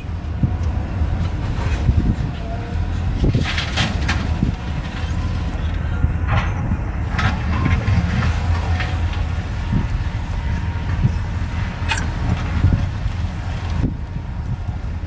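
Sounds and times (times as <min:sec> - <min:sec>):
diesel excavator engine running: 0:00.0 - 0:15.0.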